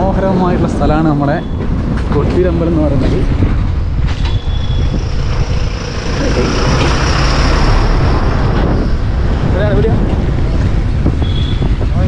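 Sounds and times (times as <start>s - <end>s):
road rumble: 0.0s - 12.0s
wind buffeting microphone: 0.0s - 12.0s.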